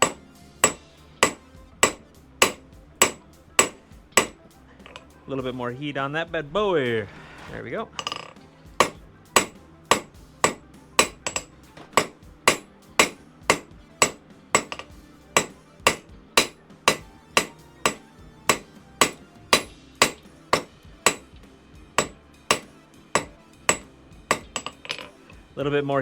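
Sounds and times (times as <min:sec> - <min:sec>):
hammer striking steel on anvil: 0:00.0 - 0:05.1, 0:08.0 - 0:25.4.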